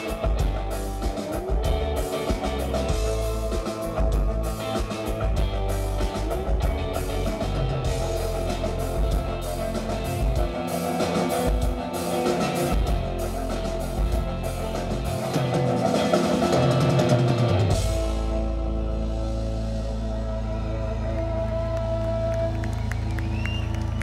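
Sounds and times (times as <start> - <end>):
drums hitting steadily: 0.0 - 20.2
live rock band playing: 0.0 - 24.0.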